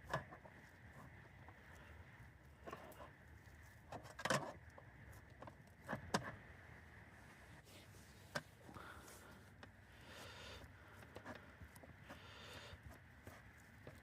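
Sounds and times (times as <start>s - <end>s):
faint low background noise: 0.0s - 14.0s.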